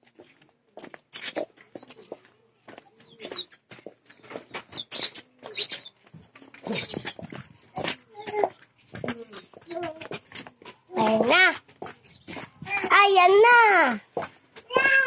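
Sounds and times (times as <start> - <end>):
scuffing footsteps: 0.0 - 15.0
birds chirping: 0.2 - 13.5.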